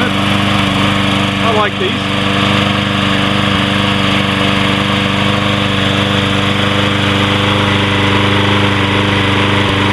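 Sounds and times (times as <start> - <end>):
lawn mower engine running: 0.0 - 9.9.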